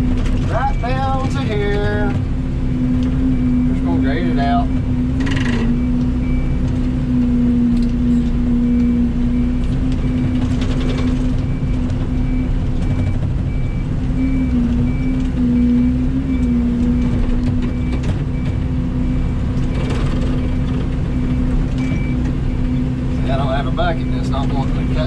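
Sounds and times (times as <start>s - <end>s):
excavator diesel engine under load: 0.0s - 25.0s
travel alarm beeping: 0.0s - 25.0s.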